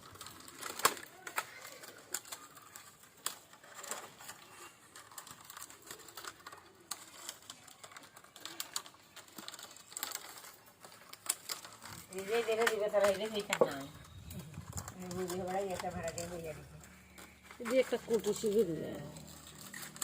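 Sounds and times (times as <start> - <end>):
bamboo sticks clicking and tapping: 0.0 - 20.0.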